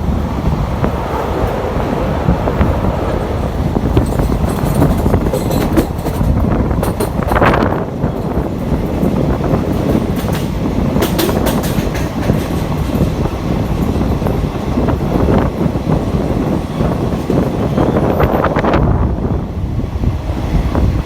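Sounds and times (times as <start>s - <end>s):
wheels clattering over rail joints: 0.0s - 18.9s
train rumbling on track: 0.0s - 21.0s.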